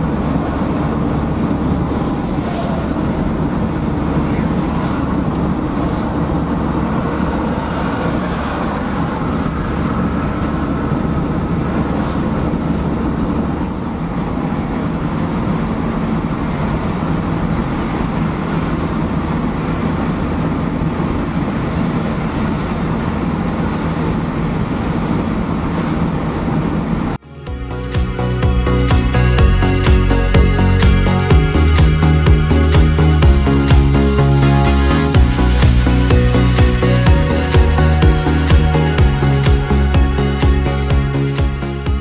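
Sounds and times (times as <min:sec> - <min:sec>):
low engine drone: 0:00.0 - 0:42.0
tyre road noise: 0:00.0 - 0:42.0.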